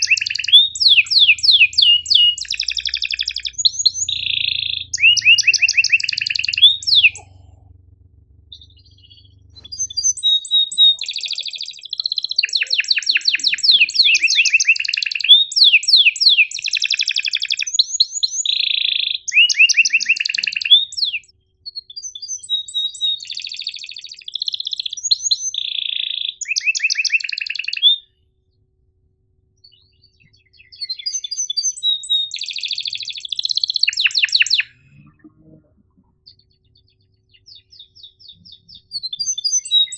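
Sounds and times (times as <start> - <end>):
canary singing trills: 0.0 - 28.1, 29.6 - 39.9.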